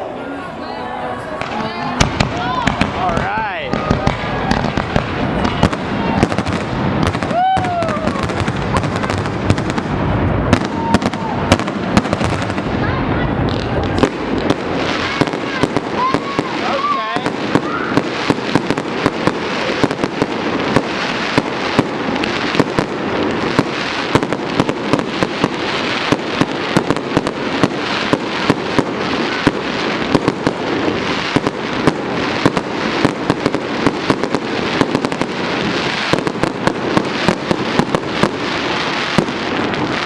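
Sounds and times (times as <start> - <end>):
fireworks barrage bangs: 1.4 - 40.0.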